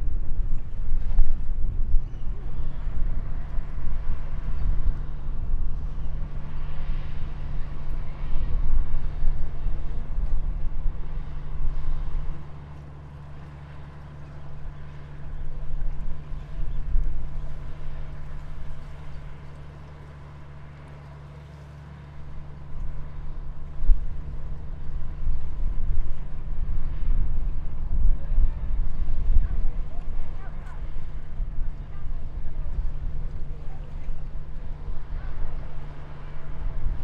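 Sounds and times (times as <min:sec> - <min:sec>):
boat engine humming: 0:00.0 - 0:37.0
low rumble of wind or water: 0:00.0 - 0:37.0.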